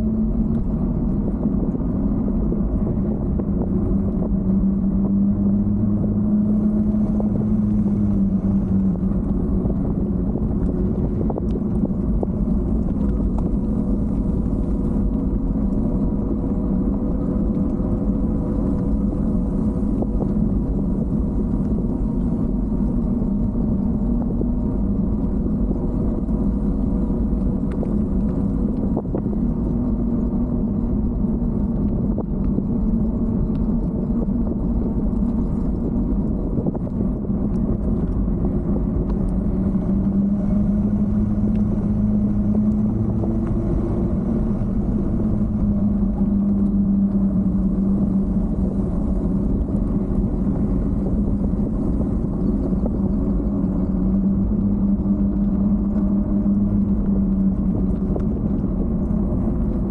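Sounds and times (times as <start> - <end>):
bike riding rumble: 0.0 - 59.9.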